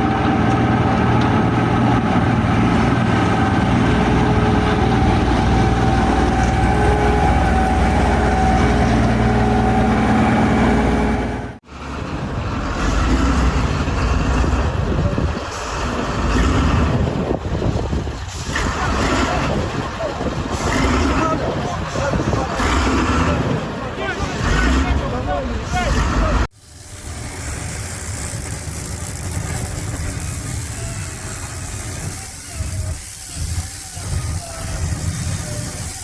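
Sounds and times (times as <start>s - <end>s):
loud machine rumble: 0.0s - 21.6s, 26.0s - 36.0s
uneven engine noise: 0.0s - 36.0s.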